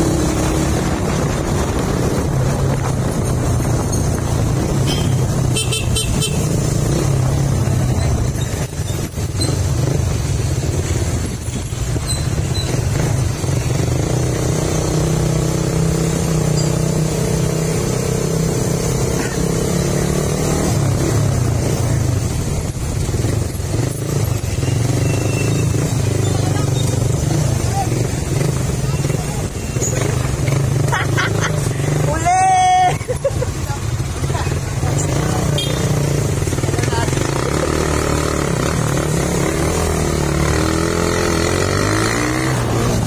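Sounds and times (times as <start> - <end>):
motorcycle engine running: 0.0 - 43.0
other motorcycles nearby: 0.0 - 43.0.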